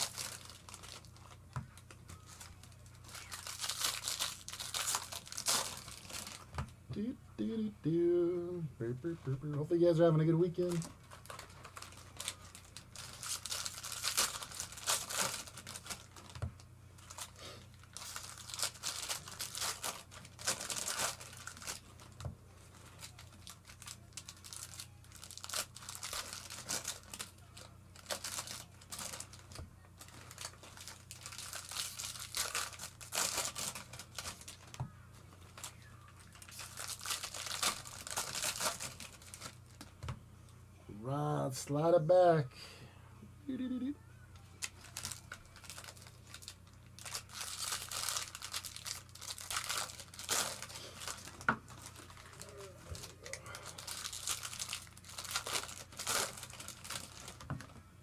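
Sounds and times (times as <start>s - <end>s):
foil wrappers tearing and crinkling: 0.0s - 6.6s, 9.2s - 40.0s, 44.4s - 57.8s
faint low hum: 0.0s - 58.0s.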